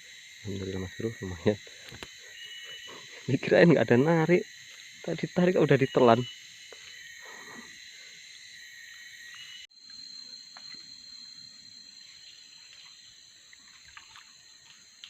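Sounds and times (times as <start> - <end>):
forest insects whining chorus: 0.0 - 15.0.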